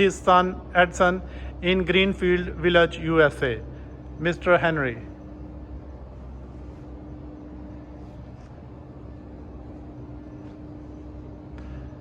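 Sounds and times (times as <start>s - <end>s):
faint steady tone: 0.0s - 12.0s
low background hum: 0.0s - 12.0s.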